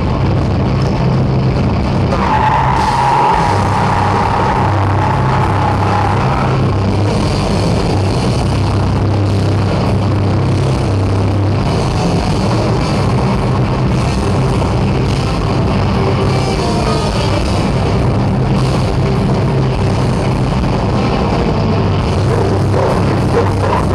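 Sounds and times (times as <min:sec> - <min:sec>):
heavy metal band playing live: 0:00.0 - 0:23.9.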